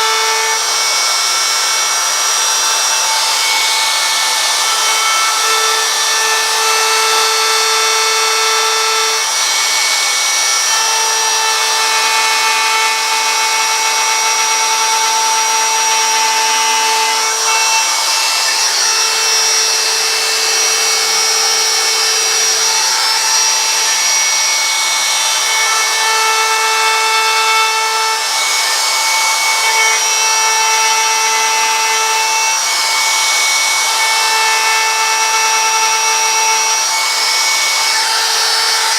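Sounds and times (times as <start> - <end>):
power tool cutting wood: 0.0 - 38.9.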